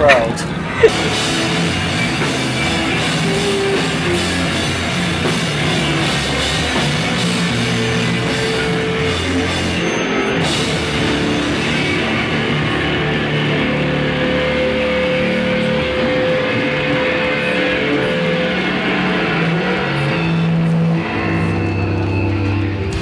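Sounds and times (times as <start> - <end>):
rock music with drums and guitar: 0.8 - 23.0.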